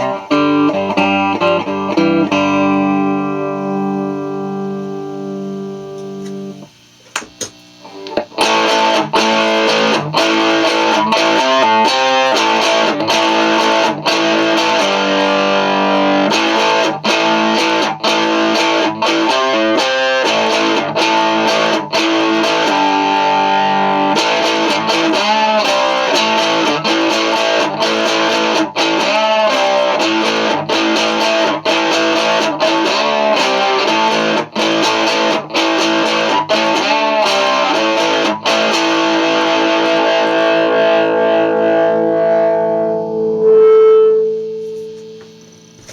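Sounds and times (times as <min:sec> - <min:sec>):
distorted electric guitar riff: 0:00.0 - 0:45.9.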